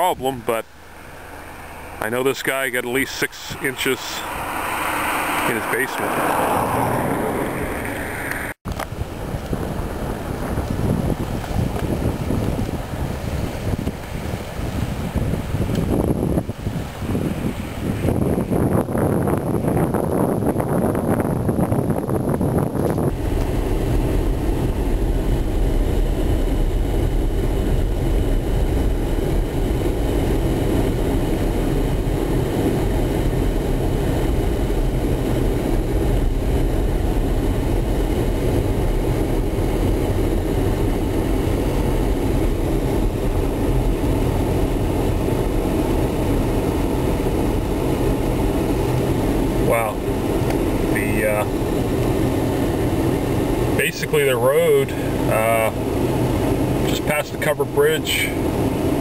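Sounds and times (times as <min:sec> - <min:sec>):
car engine: 0:00.0 - 0:59.0
deep rumble: 0:00.0 - 0:59.0
tyre noise on road: 0:00.0 - 0:59.0.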